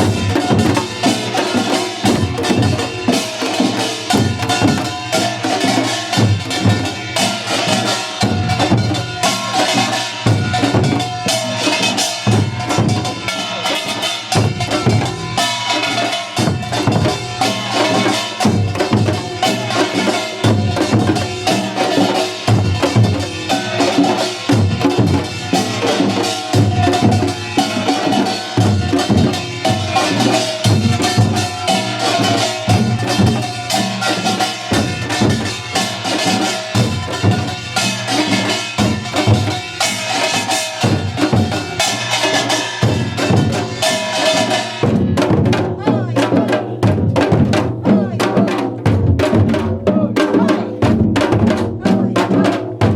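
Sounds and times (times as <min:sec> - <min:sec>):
drums thumping: 0:00.0 - 0:07.6, 0:16.4 - 0:52.9
small metal gongs ringing: 0:00.0 - 0:45.6.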